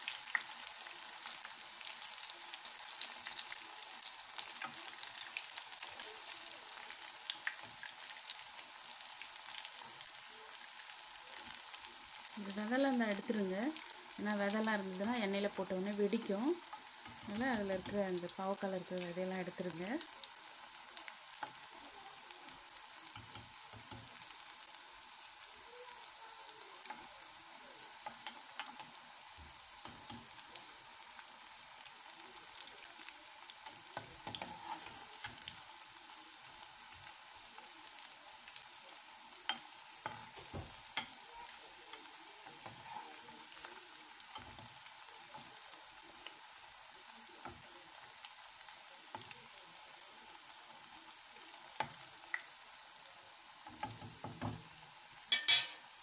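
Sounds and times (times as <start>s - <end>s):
food deep-frying in hot oil: 0.0s - 56.0s.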